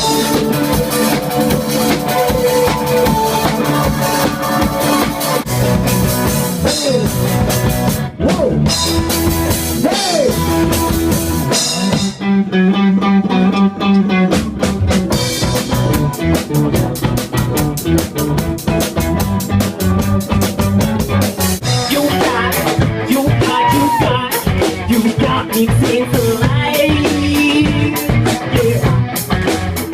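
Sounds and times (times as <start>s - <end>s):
live band playing: 0.0s - 29.9s.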